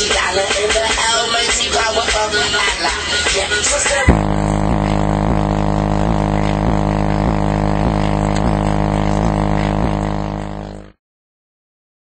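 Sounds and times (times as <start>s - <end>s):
loud music through car speakers: 0.0s - 11.0s.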